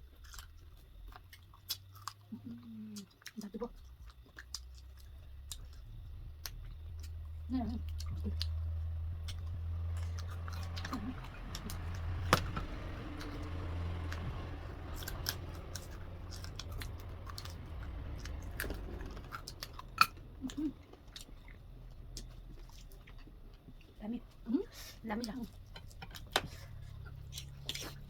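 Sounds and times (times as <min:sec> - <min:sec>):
close chewing of food: 0:00.0 - 0:28.0
low steady hum: 0:00.0 - 0:28.0.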